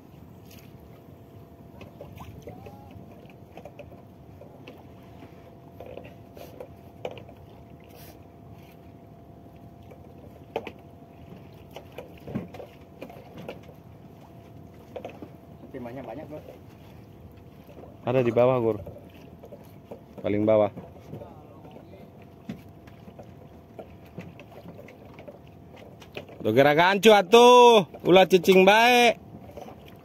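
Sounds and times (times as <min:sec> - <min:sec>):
wind and water rumble: 0:00.0 - 0:30.0
knocks and clicks from boat gear: 0:01.7 - 0:07.6, 0:09.8 - 0:27.0, 0:27.6 - 0:30.0.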